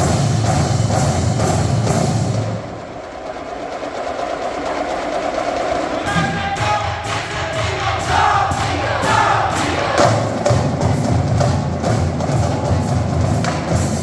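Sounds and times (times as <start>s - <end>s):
marching drumline playing: 0.0s - 14.0s
pitched band notes: 0.0s - 14.0s.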